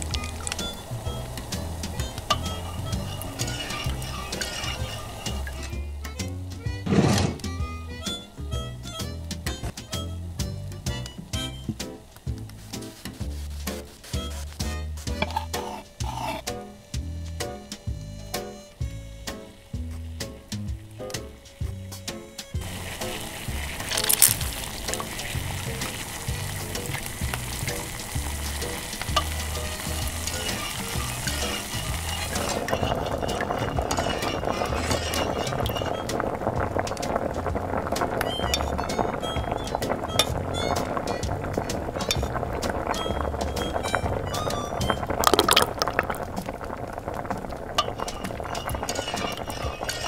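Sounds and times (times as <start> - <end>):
liquid bubbling in a pot: 0.0 - 6.8, 7.4 - 50.0.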